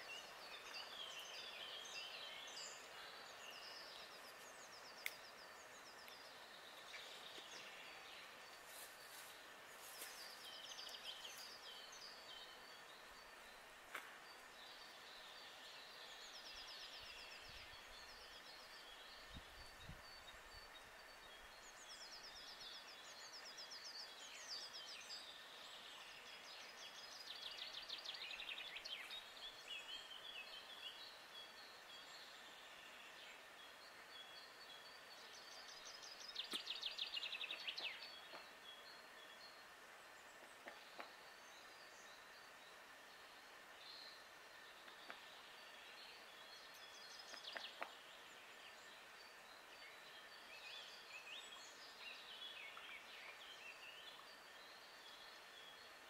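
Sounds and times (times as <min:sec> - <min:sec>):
faint songbirds trilling: 0:00.0 - 0:56.0.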